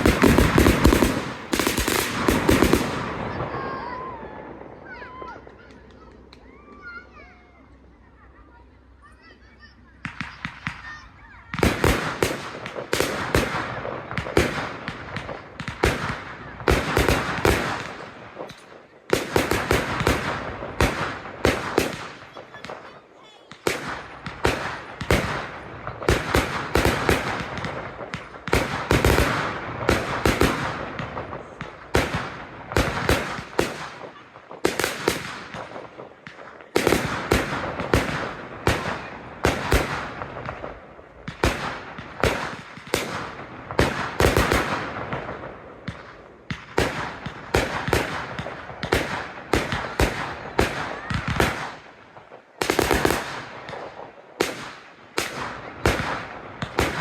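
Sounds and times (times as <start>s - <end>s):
fireworks bursting bangs: 0.0s - 57.0s
fireworks crackling: 0.0s - 57.0s.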